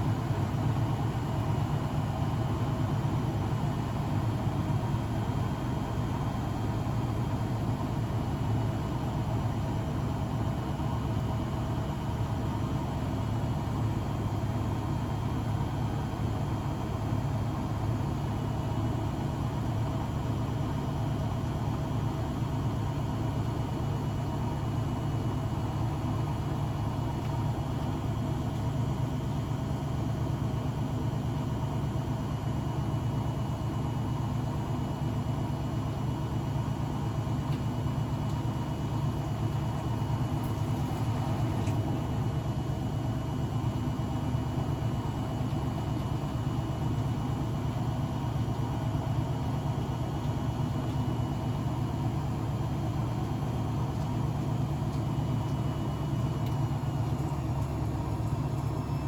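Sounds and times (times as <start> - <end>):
faint steady whine: 0.0 - 59.0
washing machine hum: 0.0 - 59.0.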